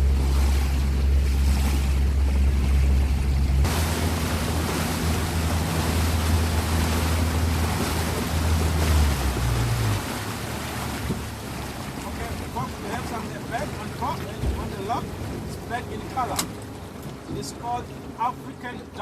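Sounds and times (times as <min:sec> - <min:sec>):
boat motor running: 0:00.0 - 0:19.0
water rushing: 0:00.0 - 0:19.0
wind: 0:00.0 - 0:19.0.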